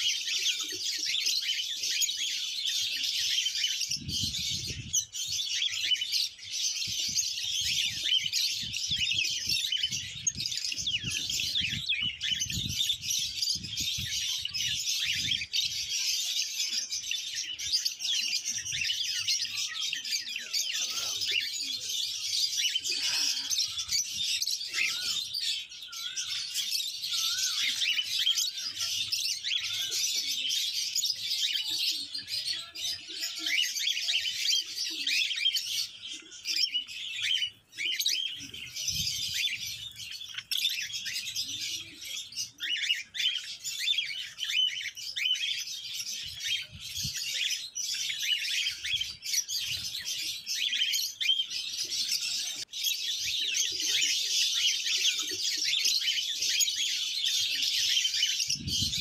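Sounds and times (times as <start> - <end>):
pet birds chirping and chattering: 0.0 - 59.0.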